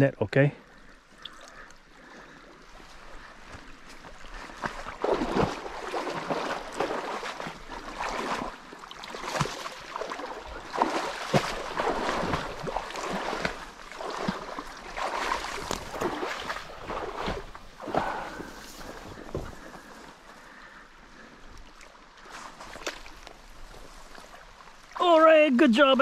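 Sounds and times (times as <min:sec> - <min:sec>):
river water splashing: 0:00.7 - 0:26.0.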